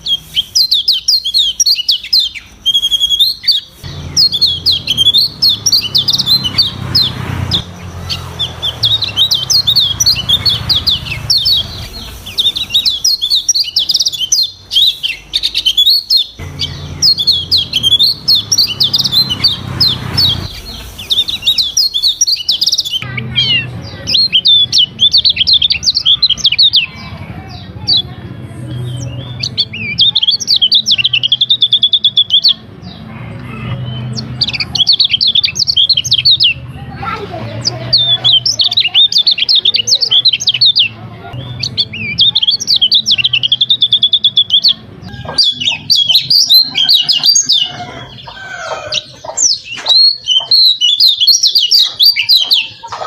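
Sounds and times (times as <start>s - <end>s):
bird twittering song: 0.0s - 53.0s.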